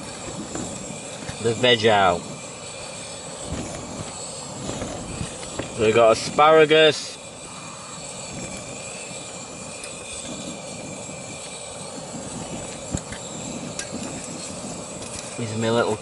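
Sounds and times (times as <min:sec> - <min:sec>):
gas stove burner roaring: 0:00.0 - 0:16.0.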